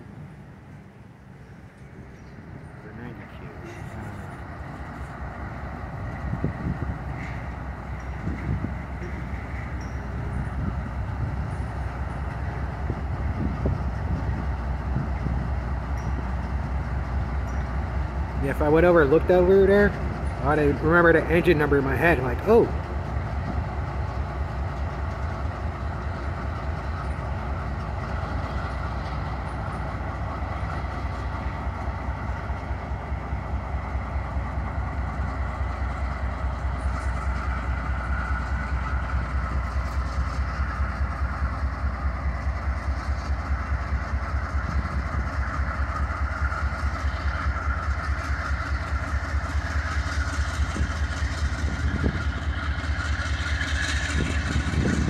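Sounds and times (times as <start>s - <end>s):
locomotive engine throb: 0.0s - 55.0s
rail and wheel noise: 0.0s - 55.0s.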